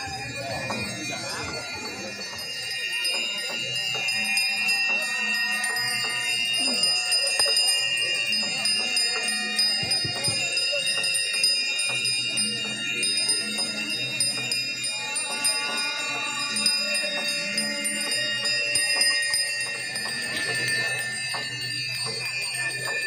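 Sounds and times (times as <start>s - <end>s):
metal bells and chimes ringing: 0.0s - 23.0s.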